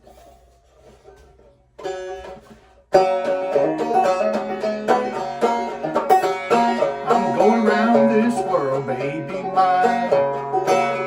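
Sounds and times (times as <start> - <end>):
banjo picking: 0.0 - 11.0.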